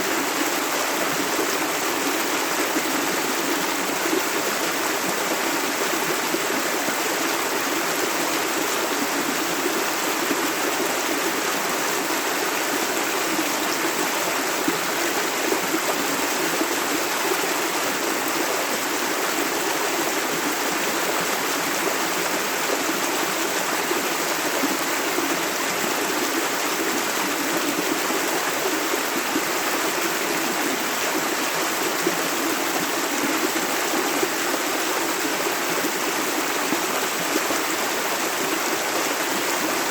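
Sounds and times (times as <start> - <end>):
river water burbling over stones: 0.0 - 39.9.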